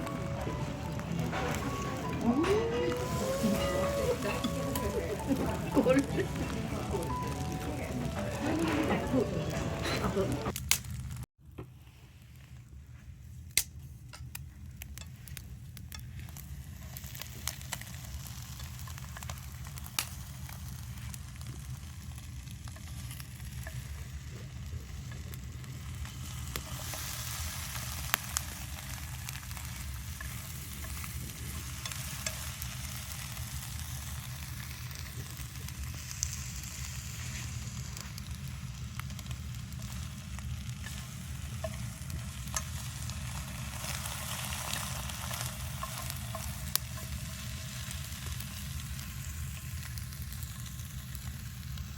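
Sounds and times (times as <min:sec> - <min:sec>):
food sizzling in a pan: 0:00.0 - 0:11.0, 0:16.0 - 0:51.9.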